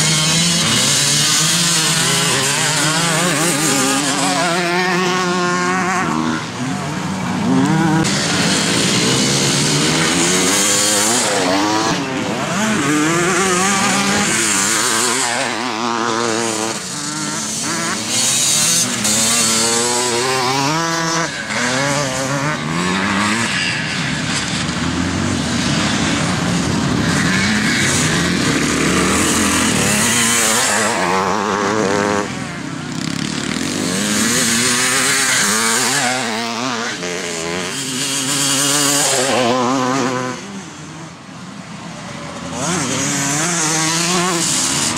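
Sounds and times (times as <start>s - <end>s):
motocross bike engines revving: 0.0s - 44.9s.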